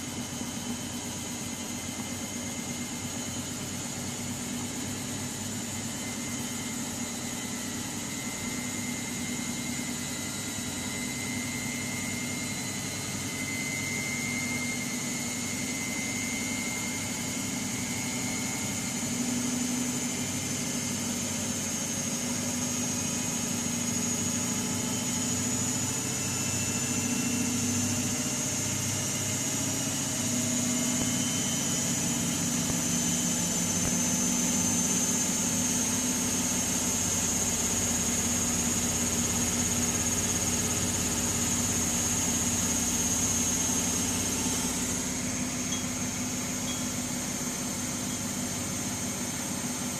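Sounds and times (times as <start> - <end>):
washing machine spinning: 0.0 - 49.9.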